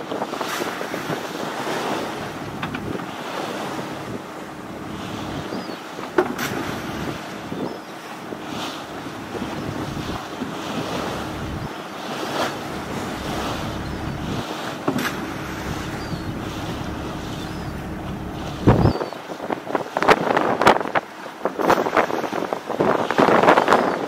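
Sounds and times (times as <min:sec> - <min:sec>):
water rushing along hull: 0:00.0 - 0:24.0
wind on microphone: 0:00.0 - 0:24.0
boat engine hum: 0:00.2 - 0:21.3.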